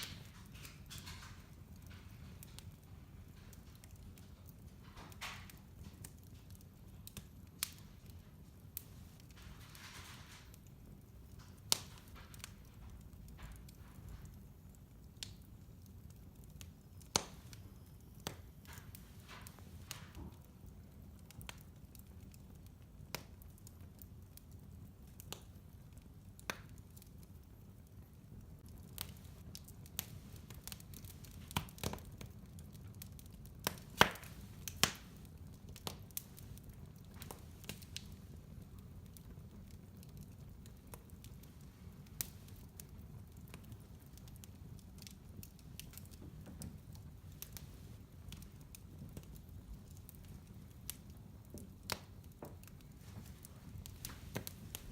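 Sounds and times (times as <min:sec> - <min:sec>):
fire crackling and popping: 0:00.0 - 0:54.9
low rumble of flames: 0:00.0 - 0:54.9.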